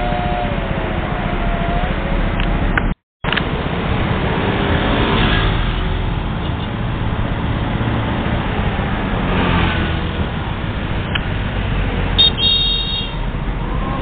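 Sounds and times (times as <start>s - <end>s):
vehicle engines passing: 0.0s - 14.0s.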